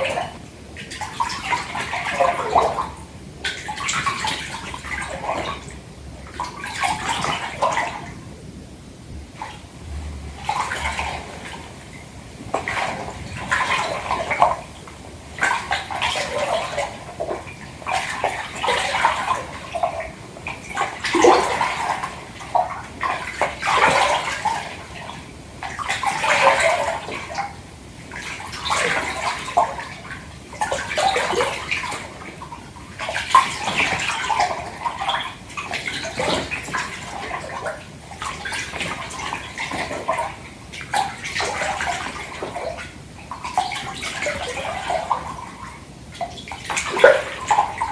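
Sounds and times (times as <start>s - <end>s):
hands sloshing water in bathtub: 0.0s - 8.2s, 9.2s - 47.9s.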